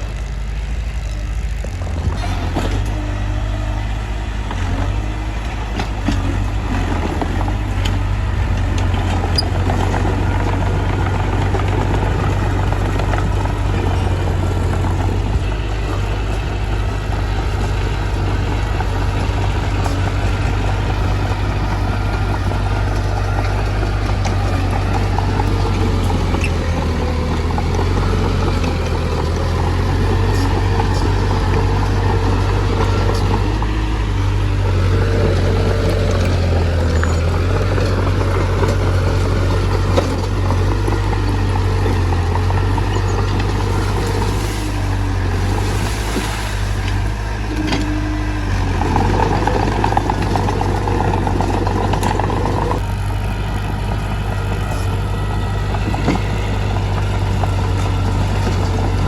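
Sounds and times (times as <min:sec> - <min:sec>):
bulldozer diesel engine rumbling: 0:00.0 - 0:59.0.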